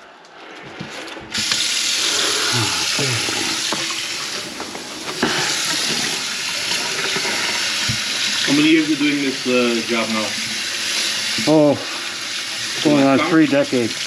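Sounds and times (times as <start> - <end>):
faucet water running into sink: 1.3 - 14.0.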